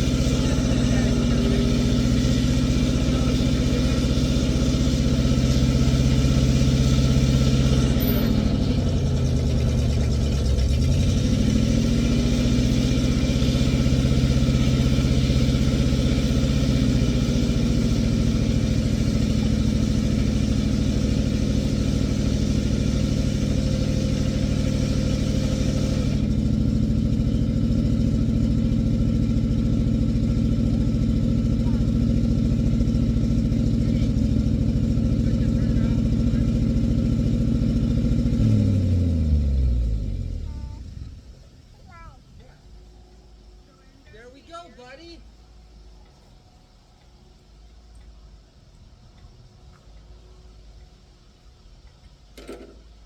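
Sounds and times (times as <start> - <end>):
backhoe engine running: 0.0 - 51.2.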